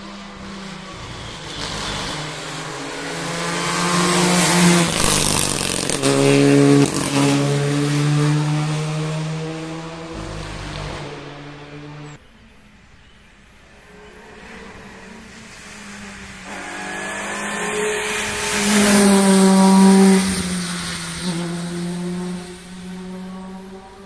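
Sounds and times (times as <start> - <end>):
rally car passing at speed: 0.0 - 12.2, 13.6 - 24.0.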